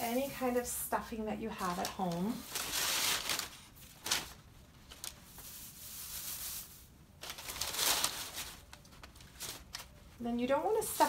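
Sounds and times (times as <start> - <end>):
rustling craft stuffing: 0.0 - 11.0
paper bag rustling: 1.5 - 11.0.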